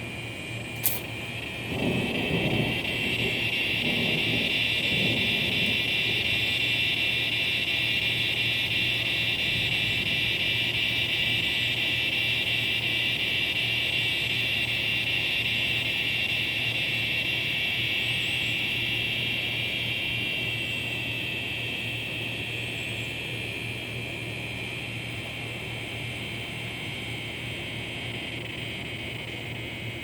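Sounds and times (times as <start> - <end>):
cicadas buzzing: 0.7 - 28.6.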